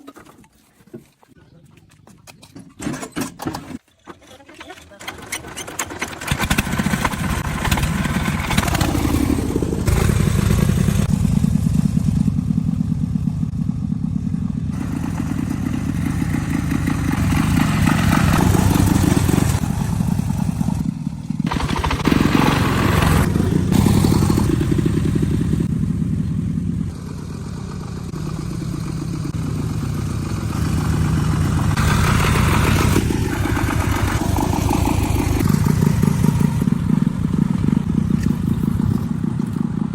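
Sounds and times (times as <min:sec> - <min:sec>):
vehicle engines running: 0:05.7 - 0:39.9.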